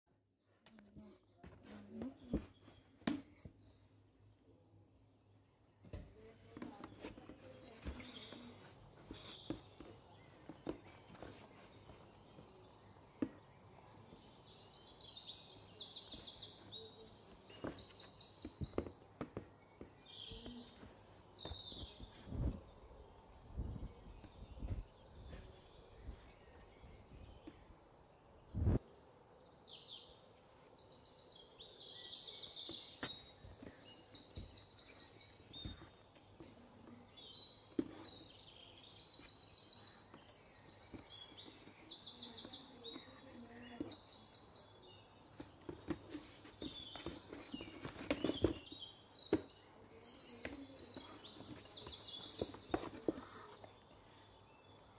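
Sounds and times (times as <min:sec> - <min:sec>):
small birds chirping: 0:00.3 - 0:54.9.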